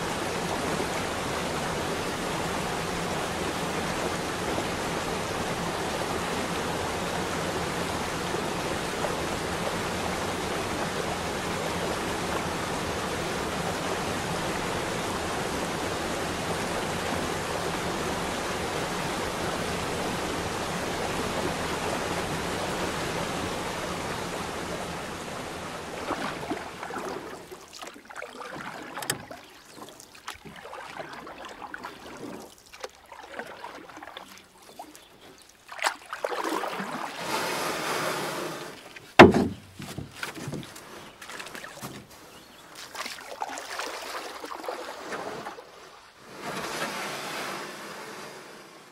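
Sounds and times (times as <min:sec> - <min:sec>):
water lapping and splashing: 0:00.0 - 0:48.8
rushing water: 0:00.0 - 0:48.9.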